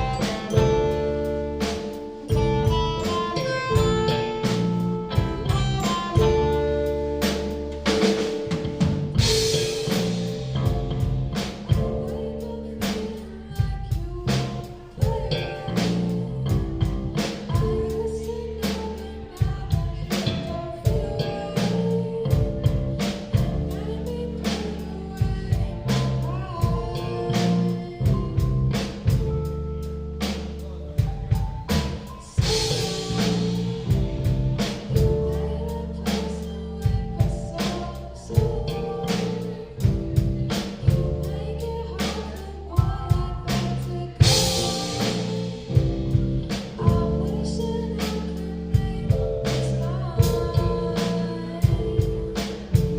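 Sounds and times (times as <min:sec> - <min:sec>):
drum kit: 0:00.0 - 0:52.9
live rock band playing: 0:00.0 - 0:52.9.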